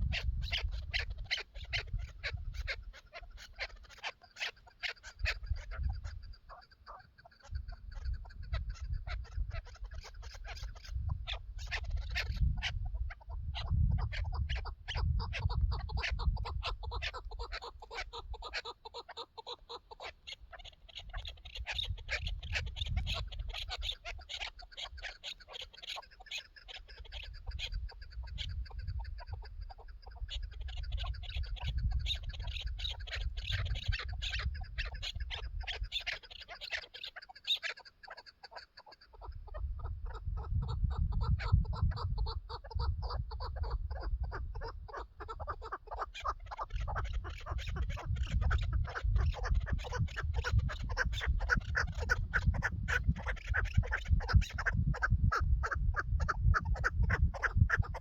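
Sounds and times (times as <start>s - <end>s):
partridge calling chuk notes: 0.0s - 58.0s.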